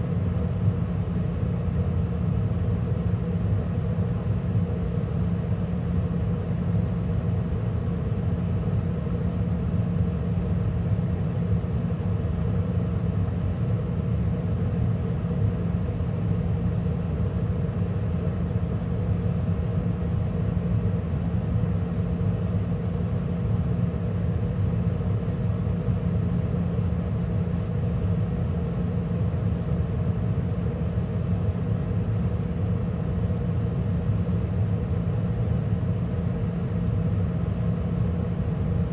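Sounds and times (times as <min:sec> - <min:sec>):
gas furnace running: 0:00.0 - 0:38.9.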